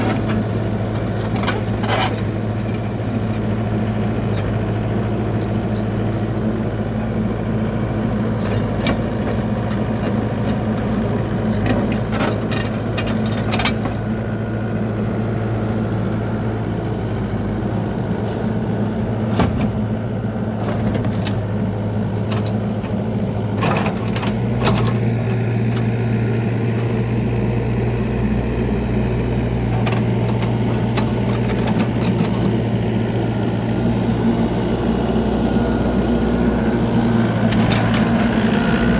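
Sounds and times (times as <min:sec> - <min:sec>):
heavy machinery engine running: 0:00.0 - 0:38.9.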